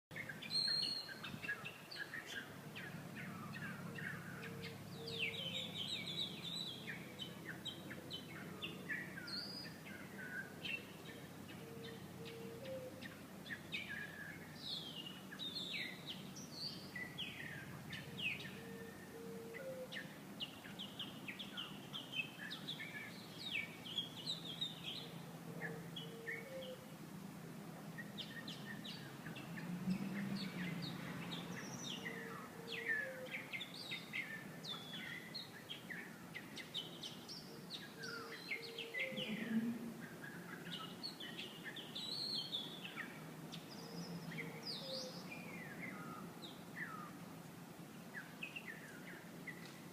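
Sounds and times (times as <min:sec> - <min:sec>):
lower repeated bird call: 0:00.1 - 0:26.9, 0:28.0 - 0:47.2
songbirds chirping and trilling: 0:00.1 - 0:49.9.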